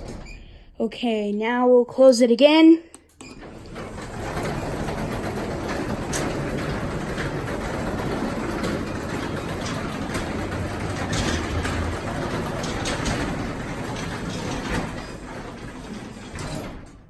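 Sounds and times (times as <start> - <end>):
garage door opener running: 0.0 - 0.7, 3.0 - 17.0
garage door creaking and clicking: 0.0 - 0.8, 3.0 - 17.0.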